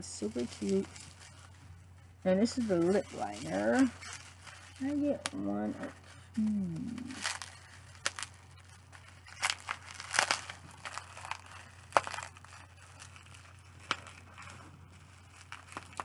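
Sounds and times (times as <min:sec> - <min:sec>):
bubble wrap crinkling: 0:00.0 - 0:16.0.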